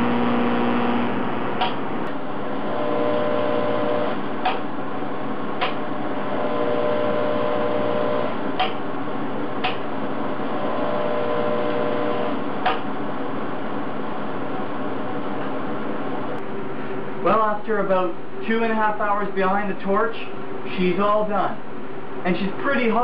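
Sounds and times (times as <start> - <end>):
welding arc hiss and hum: 0.0 - 23.0.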